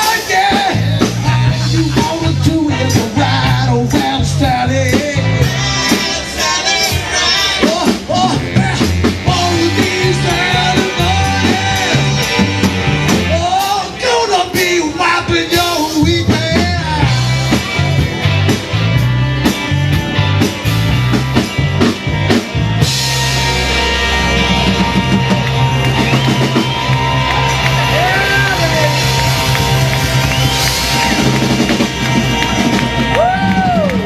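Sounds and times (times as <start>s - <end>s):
bass line: 0.0s - 34.0s
drums: 0.0s - 34.0s
rock band playing live: 0.0s - 34.0s.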